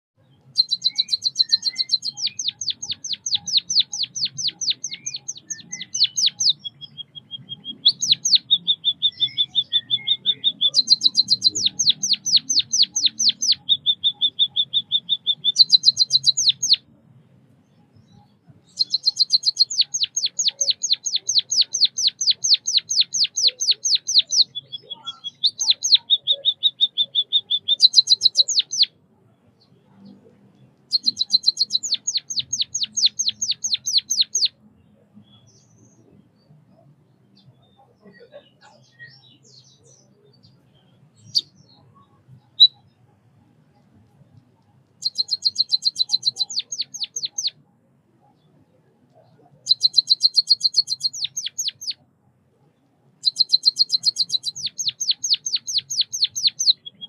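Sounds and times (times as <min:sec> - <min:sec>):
bird singing: 0:00.2 - 0:57.0.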